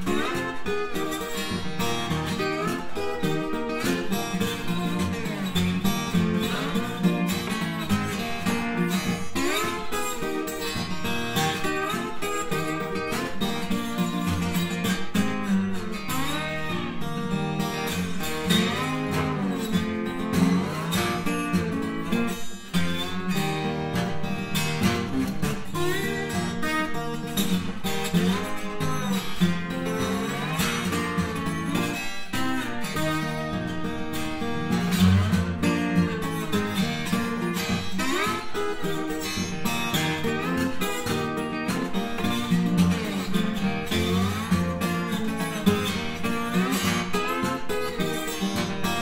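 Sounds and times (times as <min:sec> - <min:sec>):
slide acoustic guitar tune: 0:00.0 - 0:49.0.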